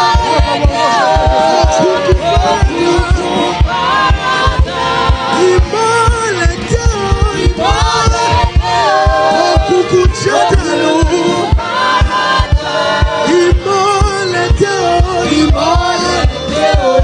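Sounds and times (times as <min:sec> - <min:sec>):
band playing: 0:00.0 - 0:17.0
fast bass drum beats: 0:00.0 - 0:17.0
voices singing gospel: 0:00.0 - 0:17.0.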